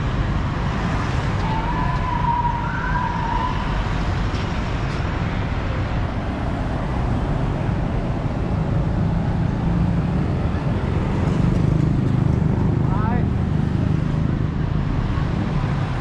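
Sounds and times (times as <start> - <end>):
cars passing with low rumble: 0.0 - 16.0.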